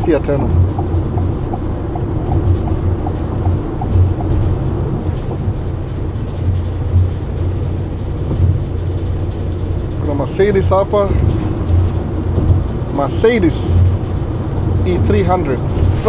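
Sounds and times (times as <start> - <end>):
turn signal ticking: 0.0 - 15.9
car cabin road rumble: 0.0 - 16.0.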